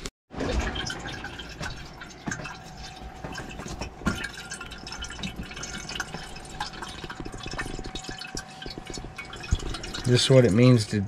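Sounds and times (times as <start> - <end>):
water dripping and trickling: 0.3 - 11.0
faint steady hum: 0.8 - 11.0.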